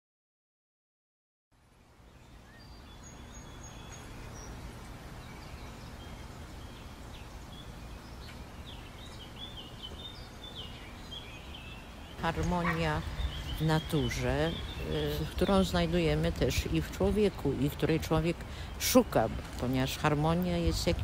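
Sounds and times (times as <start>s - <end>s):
small birds chirping: 1.6s - 21.0s
low background rumble: 1.7s - 21.0s.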